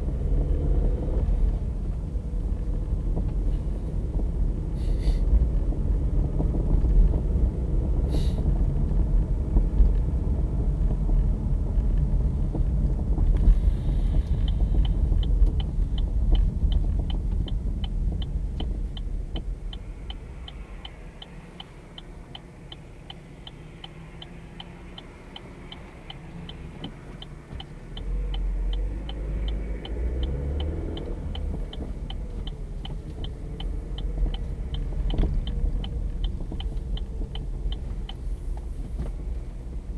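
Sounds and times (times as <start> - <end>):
road rumble inside moving car: 0.0 - 39.9
turn signal ticking: 0.0 - 39.9.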